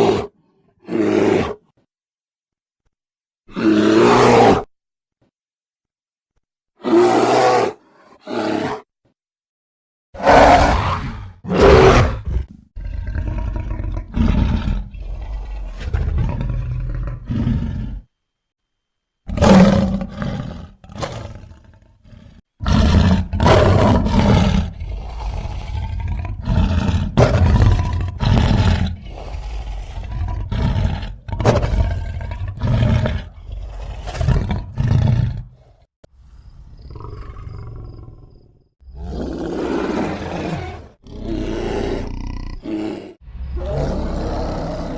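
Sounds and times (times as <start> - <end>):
creature deep roars and growls: 0.0 - 1.6, 3.5 - 4.7, 6.8 - 8.9, 10.2 - 18.1, 19.3 - 44.9.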